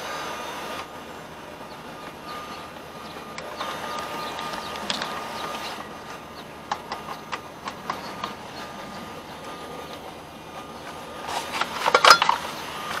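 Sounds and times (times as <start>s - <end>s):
steady background hum: 0.0s - 13.0s
hand tools clicking on engine parts: 1.7s - 13.0s.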